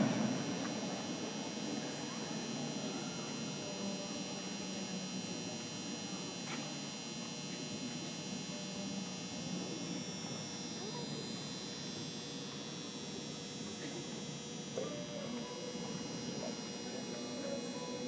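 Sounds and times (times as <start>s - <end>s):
electrical hum: 0.0s - 18.0s
spectators murmuring: 0.0s - 18.0s.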